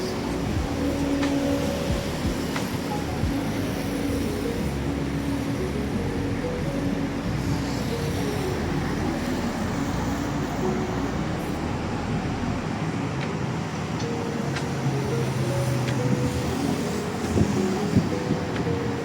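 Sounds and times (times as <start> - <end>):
busy road traffic: 0.0 - 19.0
wind on microphone: 0.0 - 19.0.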